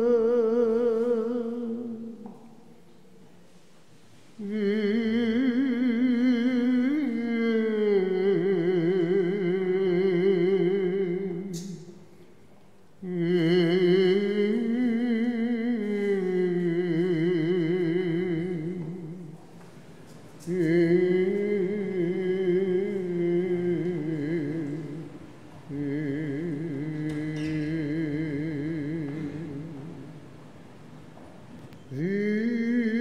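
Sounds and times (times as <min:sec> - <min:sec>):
person chanting: 0:00.0 - 0:02.6, 0:04.4 - 0:11.9, 0:13.0 - 0:19.4, 0:20.4 - 0:30.2, 0:31.9 - 0:33.0.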